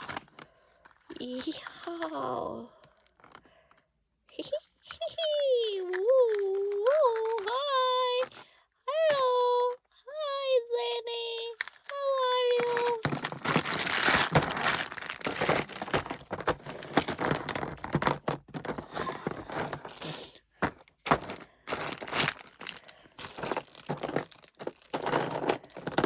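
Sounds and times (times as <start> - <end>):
plastic crinkling and rustling: 0.0 - 3.6, 4.4 - 8.5, 11.4 - 26.0.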